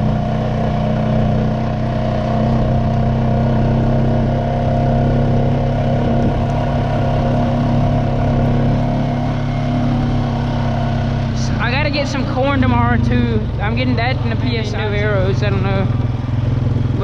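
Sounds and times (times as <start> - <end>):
four-wheeler engine running: 0.0 - 17.0.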